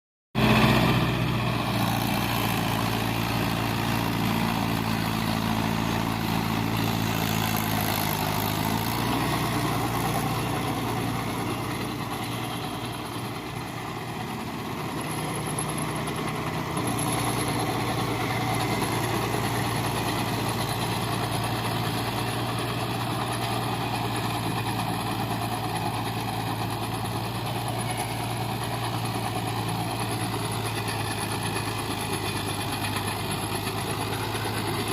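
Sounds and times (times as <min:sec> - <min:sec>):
tractor diesel engine running: 0:00.4 - 0:34.9.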